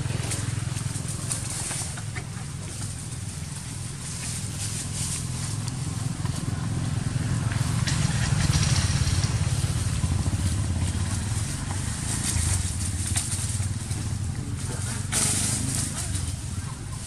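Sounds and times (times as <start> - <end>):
dry leaves crackling: 0.0 - 17.0
motorcycle engine idling: 0.0 - 17.0.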